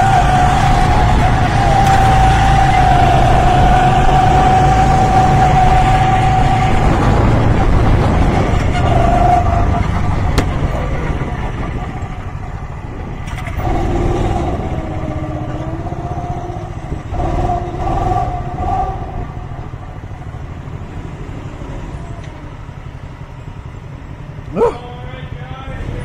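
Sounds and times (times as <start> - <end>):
go-kart engine running: 0.0 - 26.0.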